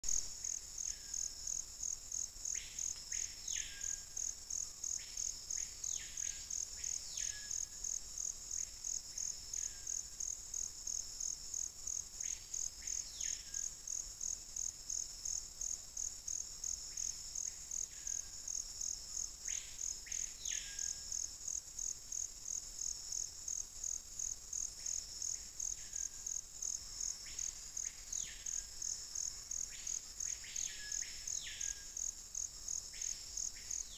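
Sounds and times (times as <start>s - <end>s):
high insect trill: 0.1s - 33.9s.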